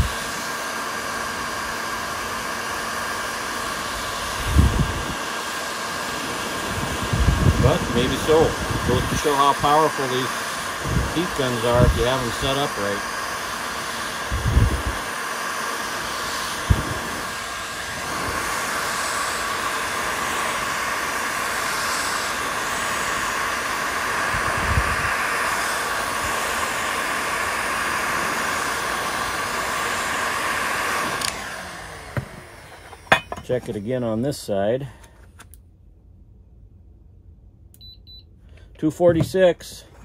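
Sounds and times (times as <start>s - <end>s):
heat gun blowing: 0.0s - 34.2s.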